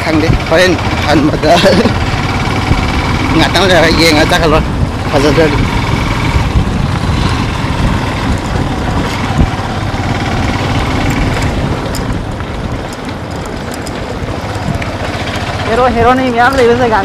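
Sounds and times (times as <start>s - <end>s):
motorbike engine running: 0.0s - 17.0s
road and wind rumble: 0.0s - 17.0s.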